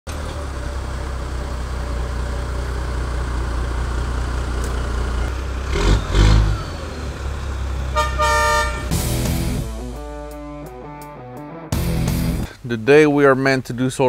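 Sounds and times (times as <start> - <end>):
truck engine rumbling: 0.0 - 13.1.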